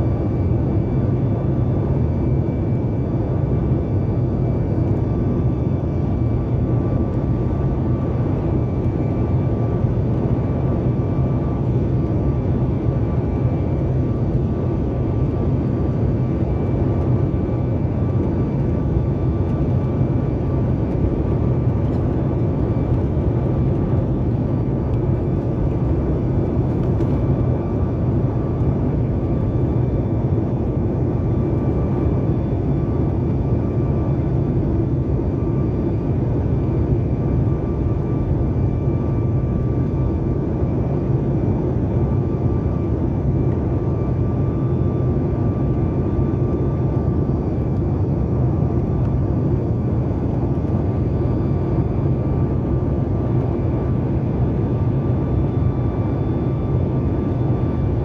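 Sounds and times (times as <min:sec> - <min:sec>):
faint steady whine: 0:00.0 - 0:58.0
jet engine low rumble: 0:00.0 - 0:58.0.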